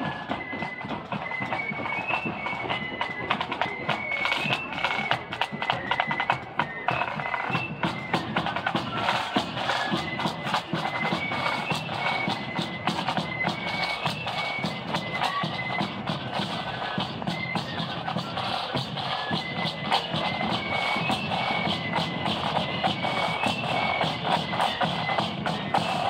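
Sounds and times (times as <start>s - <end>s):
flute melody: 0.0s - 26.0s
snare drums rattling: 0.0s - 26.0s.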